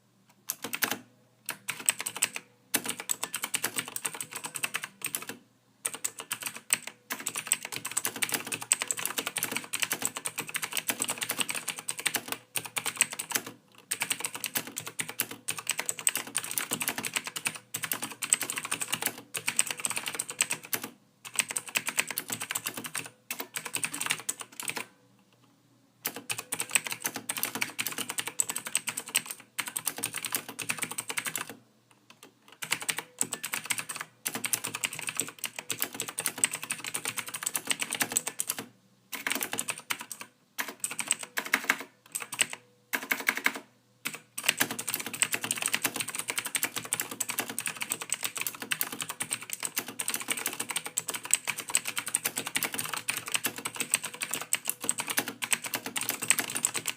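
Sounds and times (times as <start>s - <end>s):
typing on computer keyboard: 0.5s - 24.9s, 26.0s - 56.9s.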